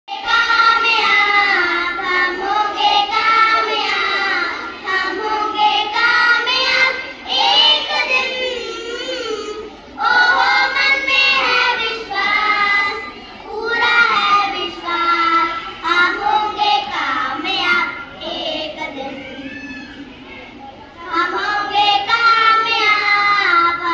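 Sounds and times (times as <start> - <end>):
children singing together: 0.1 - 23.9.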